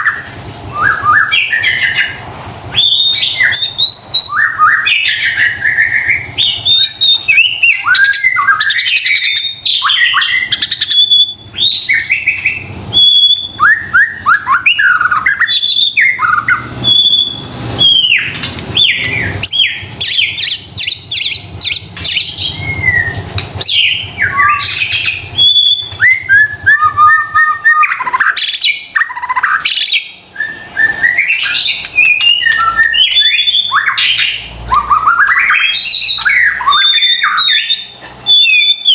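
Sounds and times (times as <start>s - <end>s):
songbird singing whistles and trills: 0.0s - 38.9s.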